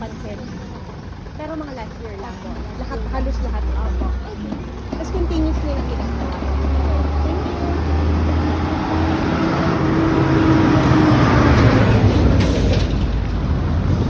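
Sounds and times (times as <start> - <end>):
passing vehicle engine and tyres: 0.0 - 14.0
steady low traffic rumble: 0.0 - 14.0.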